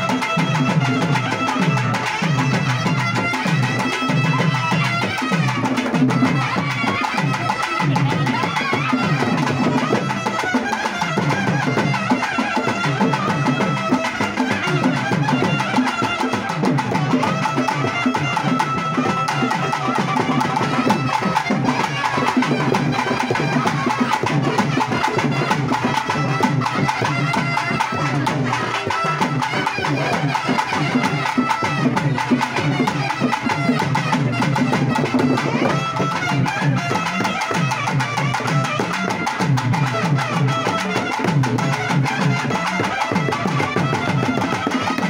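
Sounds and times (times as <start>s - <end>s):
crowd voices: 0.0s - 45.0s
festival band drumming: 0.0s - 45.0s
held melody line: 0.0s - 45.0s.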